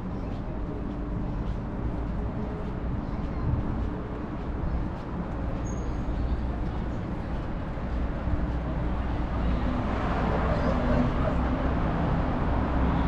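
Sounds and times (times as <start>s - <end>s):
passing traffic: 0.0s - 13.0s
traffic engine hum: 0.0s - 13.0s.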